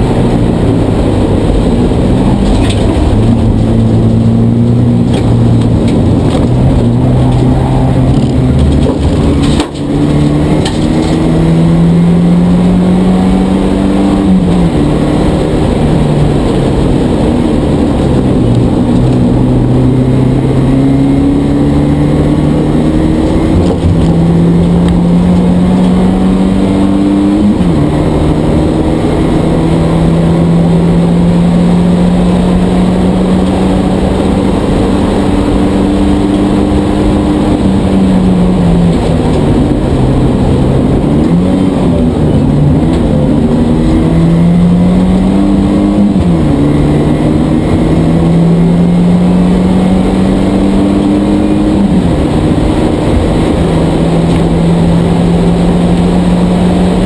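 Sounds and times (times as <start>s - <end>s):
race car engine at full throttle: 0.0s - 57.0s
wind and tyre noise: 0.0s - 57.0s.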